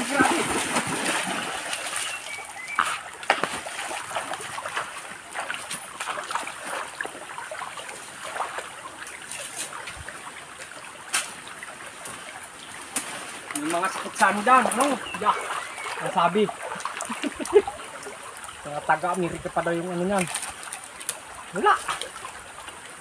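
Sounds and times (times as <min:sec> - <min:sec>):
stream flowing: 0:00.0 - 0:23.0
water splashing from wading: 0:00.0 - 0:23.0.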